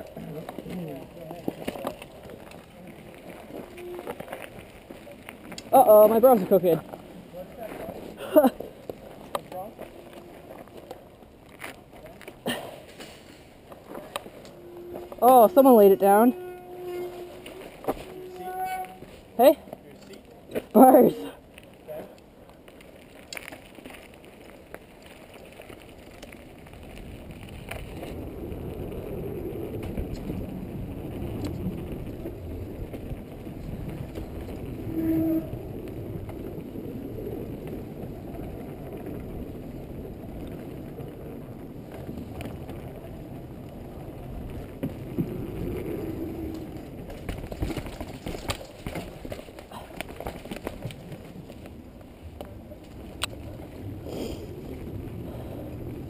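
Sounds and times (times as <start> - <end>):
bike tyre noise: 0.0 - 56.0.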